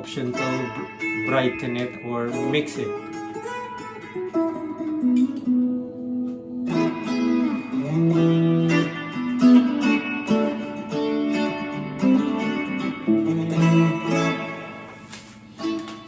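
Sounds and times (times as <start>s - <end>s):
electric guitar notes and chords: 0.0s - 16.0s.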